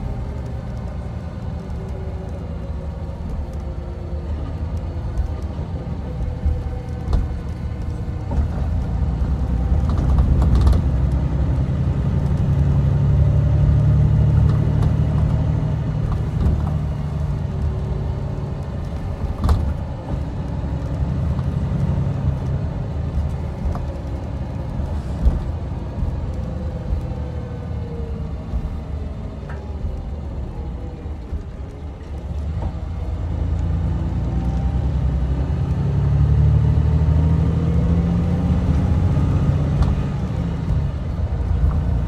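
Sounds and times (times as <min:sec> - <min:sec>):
coach engine and road rumble: 0:00.0 - 0:42.0.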